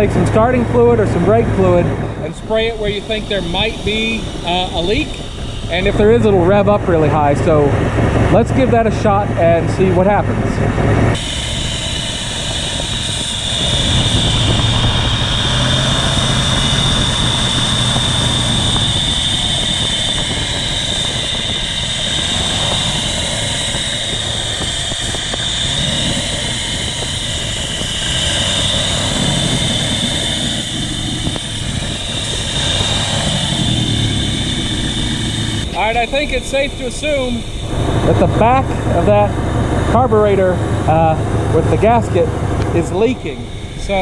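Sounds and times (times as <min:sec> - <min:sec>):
car engine idling: 0:00.0 - 0:44.0
spray hissing: 0:02.2 - 0:07.2, 0:11.2 - 0:39.5, 0:41.0 - 0:44.0.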